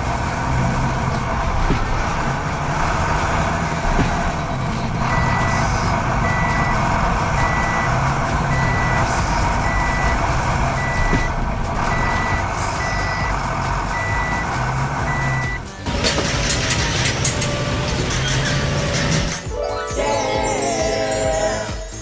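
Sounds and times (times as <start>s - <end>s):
truck engine running: 0.0s - 19.5s
reversing alarm beeping: 2.8s - 21.0s.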